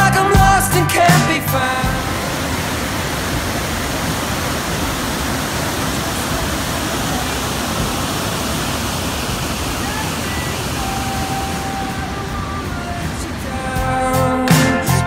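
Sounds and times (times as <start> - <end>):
song: 0.0 - 15.0
waterfall rushing: 0.0 - 15.0.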